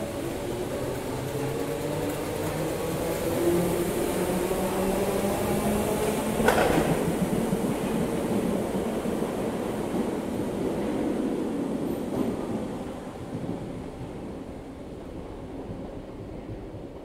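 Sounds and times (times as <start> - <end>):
electric train hum: 0.0 - 17.0
train wheels rumbling on rail: 0.0 - 17.0.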